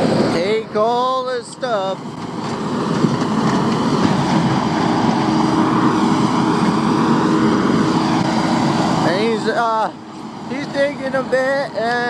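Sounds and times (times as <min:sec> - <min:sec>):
skid steer engine running: 0:00.0 - 0:12.0
steady hum: 0:00.0 - 0:12.0.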